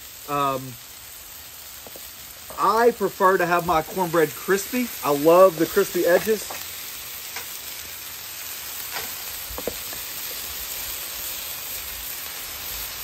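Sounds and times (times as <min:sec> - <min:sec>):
batter sizzling on griddle: 0:00.0 - 0:13.0.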